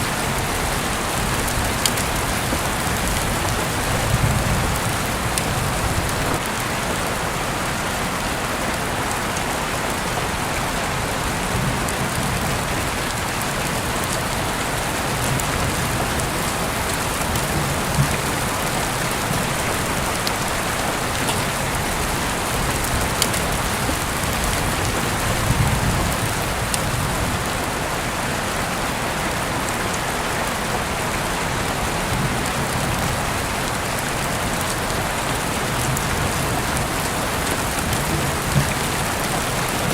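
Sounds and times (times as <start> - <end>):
heavy rain falling: 0.0 - 39.9
raindrops ticking on a surface: 0.0 - 39.9.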